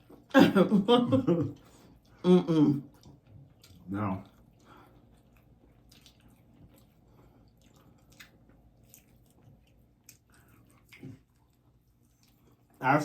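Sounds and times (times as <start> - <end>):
wet chewing sounds: 1.4 - 13.0.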